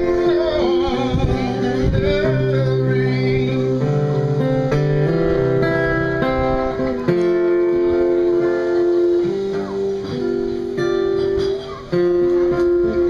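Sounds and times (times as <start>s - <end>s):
acoustic guitar strumming: 0.0s - 13.0s
country band playing: 0.0s - 13.0s
long held melody notes: 0.0s - 13.0s.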